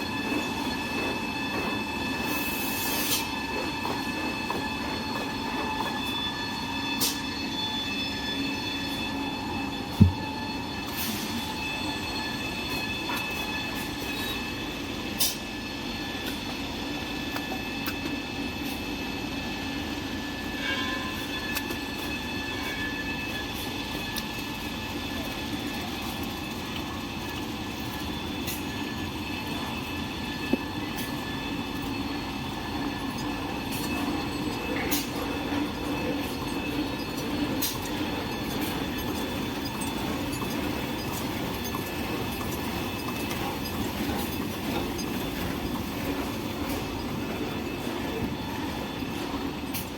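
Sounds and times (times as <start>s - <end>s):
steady whining tones: 0.0s - 2.3s, 3.3s - 20.8s, 21.4s - 49.9s.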